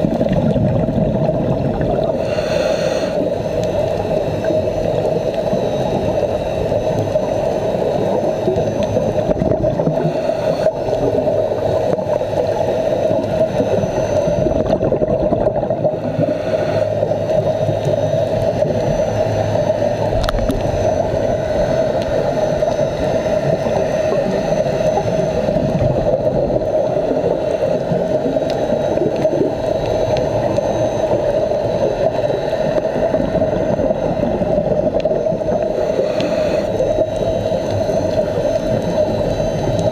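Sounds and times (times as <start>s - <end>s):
constant hum: 0.0s - 39.9s
muffled underwater wash: 0.0s - 39.9s.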